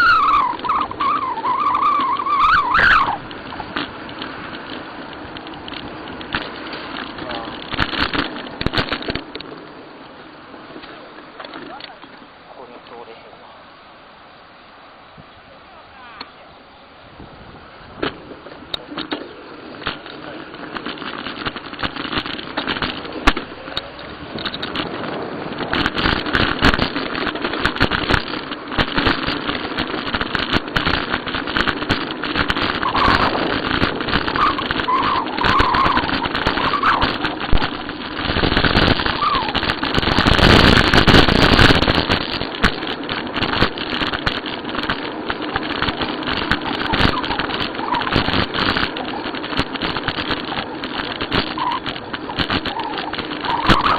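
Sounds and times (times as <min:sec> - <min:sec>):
bicycle clicking and rattling: 0:00.0 - 0:13.3, 0:17.9 - 0:53.9
wind rushing over microphone: 0:00.0 - 0:13.3, 0:16.8 - 0:53.9.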